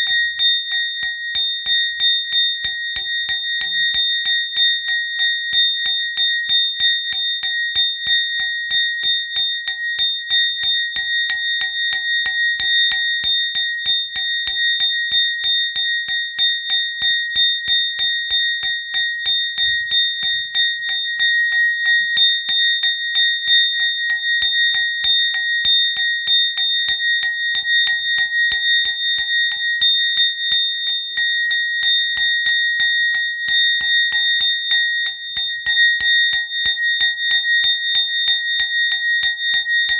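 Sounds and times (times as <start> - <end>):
small bell rung rapidly: 0.0 - 39.9.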